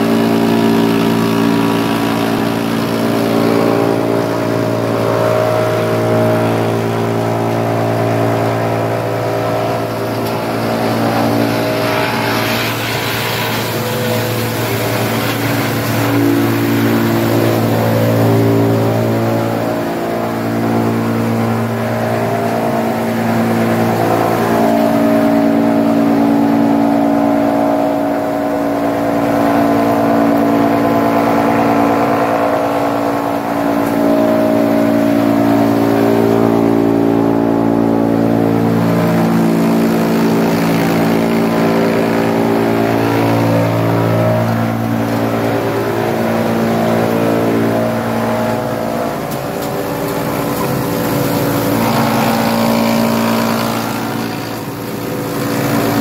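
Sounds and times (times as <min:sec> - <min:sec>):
wood chipper running: 0:00.0 - 0:56.0.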